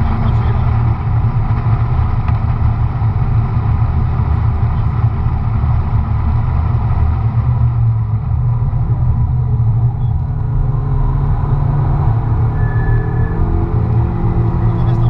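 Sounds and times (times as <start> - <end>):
car engine rumble from cabin: 0.0 - 15.0
road and tyre noise: 0.0 - 15.0.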